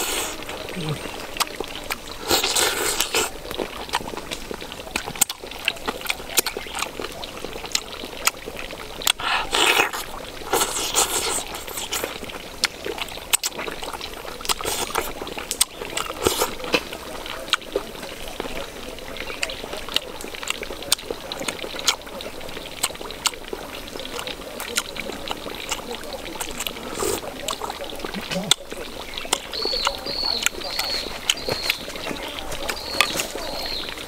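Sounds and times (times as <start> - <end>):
wet mouth clicks: 0.0 - 8.4, 9.0 - 18.6, 19.2 - 33.5
chewing and lip-smacking: 0.0 - 34.0.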